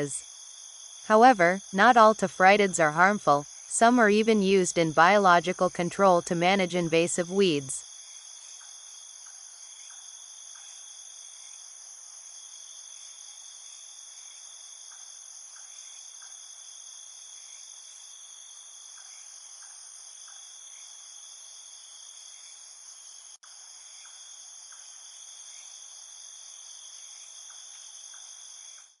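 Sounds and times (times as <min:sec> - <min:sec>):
crickets chorus: 0:00.0 - 0:29.0.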